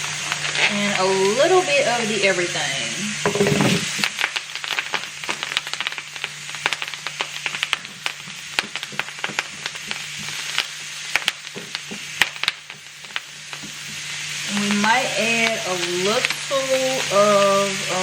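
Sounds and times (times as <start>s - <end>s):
fish sizzling on a griddle: 0.0s - 18.0s
steady low hum: 0.7s - 18.0s.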